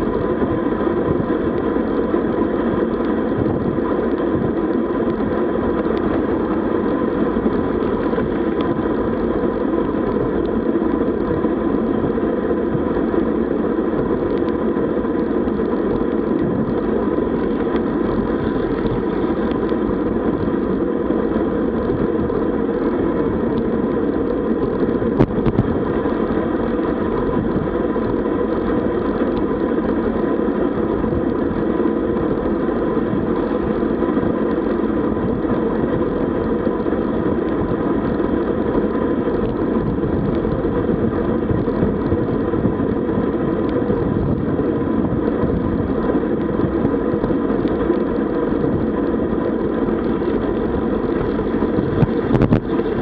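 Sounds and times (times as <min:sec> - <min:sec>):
bicycle tyre noise: 0:00.0 - 0:53.0
wind rush: 0:00.0 - 0:53.0.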